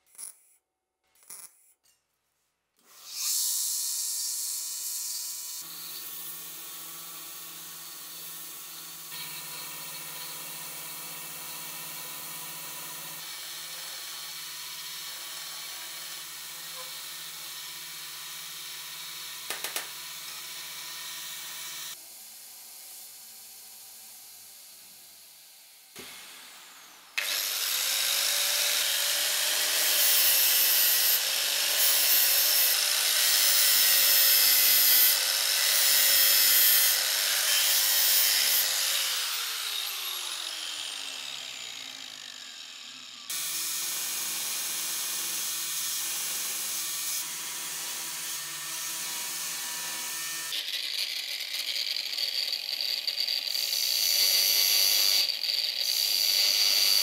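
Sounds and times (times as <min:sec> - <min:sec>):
power tool motor running: 0:05.5 - 0:22.0, 0:25.3 - 0:57.0.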